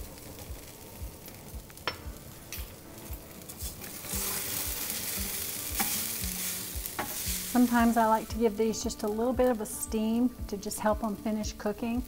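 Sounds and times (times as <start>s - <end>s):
potatoes sizzling in a pan: 0.0s - 12.0s.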